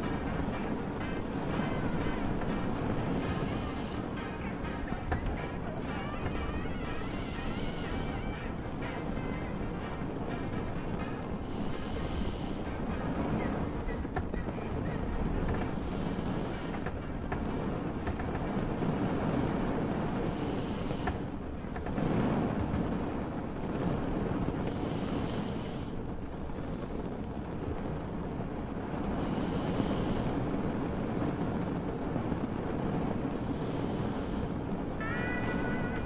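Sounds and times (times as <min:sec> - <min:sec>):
boat engine rumbling: 0:00.0 - 0:36.0
rain: 0:00.0 - 0:36.0.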